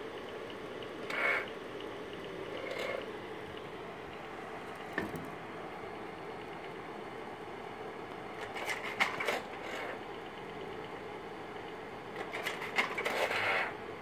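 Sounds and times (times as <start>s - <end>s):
slide projector humming: 0.0s - 14.0s.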